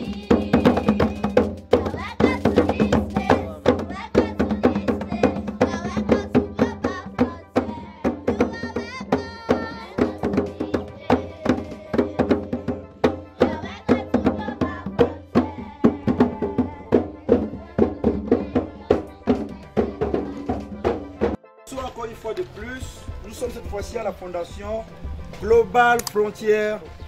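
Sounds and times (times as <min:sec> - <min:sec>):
music with fast drum beat: 0:00.0 - 0:27.0.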